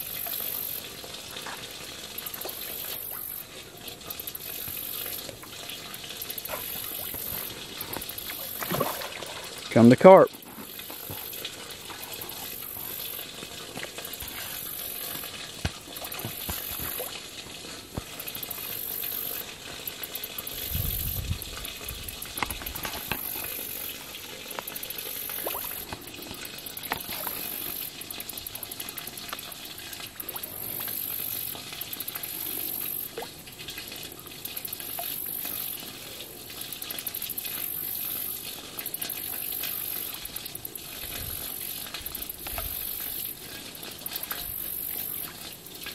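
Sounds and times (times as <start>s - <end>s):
fish splashing at water surface: 0.0s - 9.7s, 10.3s - 45.9s.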